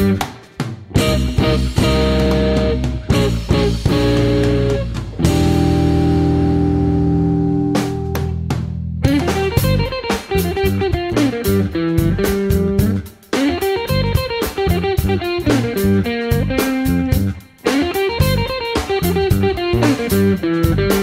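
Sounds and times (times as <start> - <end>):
electric guitar music: 0.0 - 21.0.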